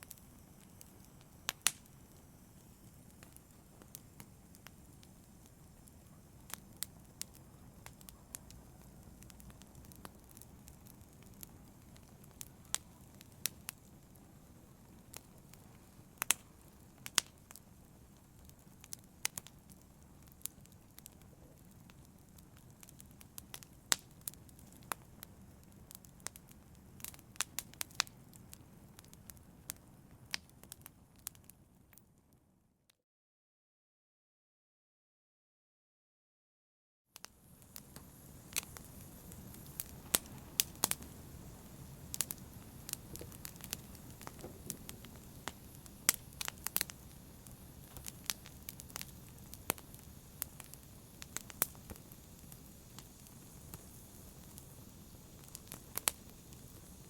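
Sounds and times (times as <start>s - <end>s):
wood fire crackling: 0.0s - 32.0s, 37.2s - 57.0s.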